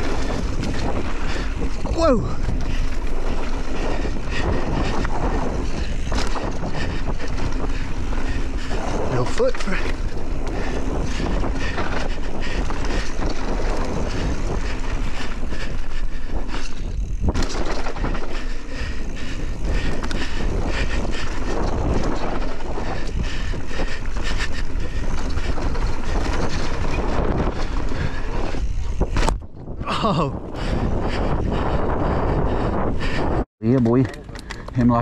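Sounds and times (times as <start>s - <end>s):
tyres rolling on dirt: 0.0s - 30.2s
bike rattling over bumps: 0.0s - 35.0s
wind rushing over microphone: 0.0s - 35.0s.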